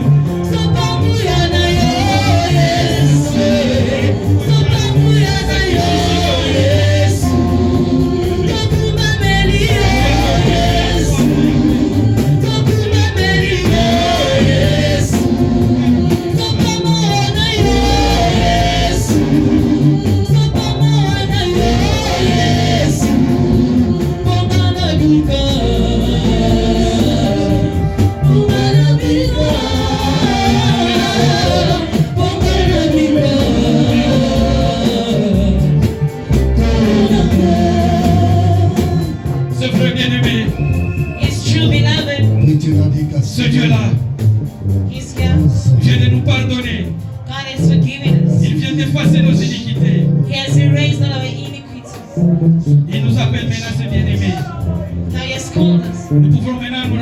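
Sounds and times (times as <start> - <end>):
band playing: 0.0 - 57.0
prominent bass line: 0.0 - 57.0
voices singing gospel: 0.0 - 57.0.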